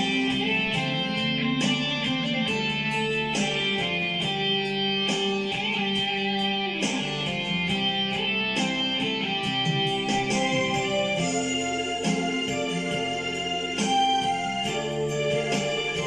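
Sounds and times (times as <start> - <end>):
guitar-led instrumental music: 0.0 - 16.0.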